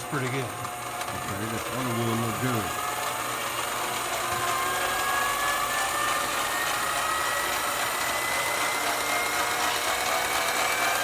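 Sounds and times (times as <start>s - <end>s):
metal lathe whine: 0.0s - 11.0s.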